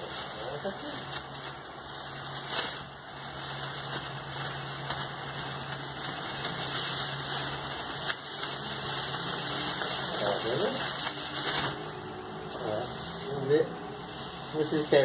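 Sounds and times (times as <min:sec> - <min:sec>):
fan motor hum: 0:00.0 - 0:15.0
plastic bag rustling: 0:00.0 - 0:15.0.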